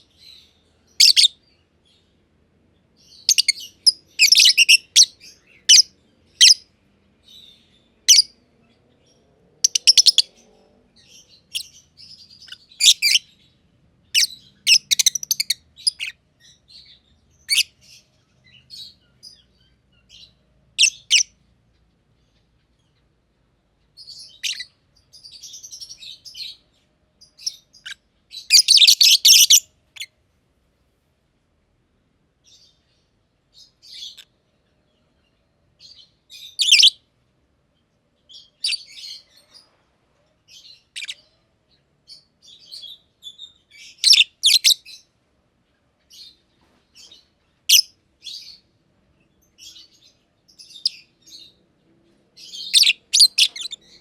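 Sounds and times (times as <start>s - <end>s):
lovebirds chirping: 0.0s - 30.2s, 32.3s - 54.0s.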